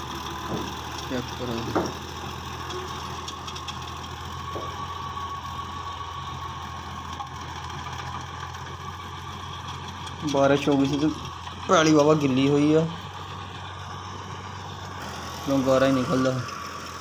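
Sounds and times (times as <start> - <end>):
faint constant whine: 0.0 - 17.0
tractor diesel engine under load: 0.0 - 17.0.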